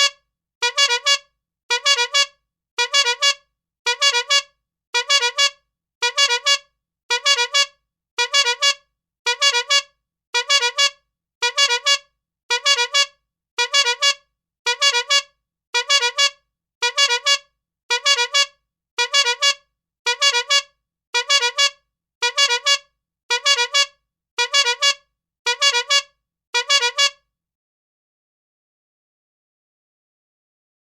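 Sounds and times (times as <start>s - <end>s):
rubber-bulb bike horn honking: 0.0s - 27.2s.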